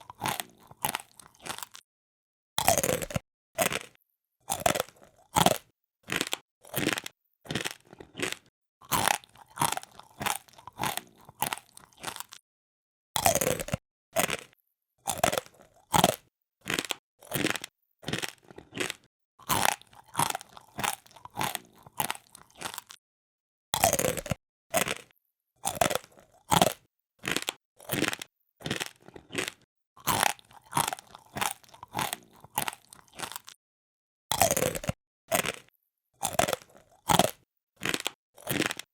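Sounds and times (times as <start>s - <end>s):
crunching of hard snack: 0.0s - 1.9s, 2.6s - 12.4s, 13.2s - 23.0s, 23.8s - 33.6s, 34.3s - 38.9s.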